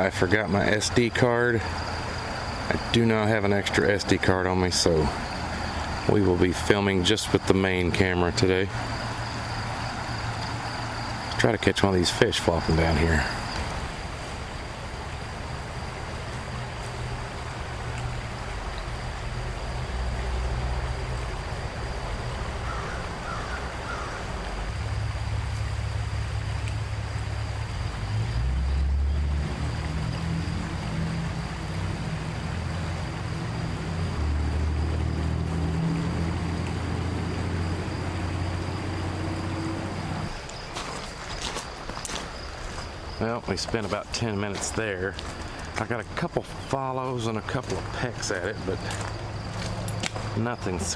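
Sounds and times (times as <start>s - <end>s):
creek water over rapids: 0.0s - 50.9s.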